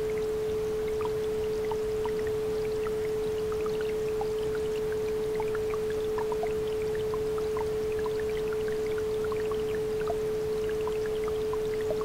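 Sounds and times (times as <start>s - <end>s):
small bubbling plinks: 0.1s - 12.0s.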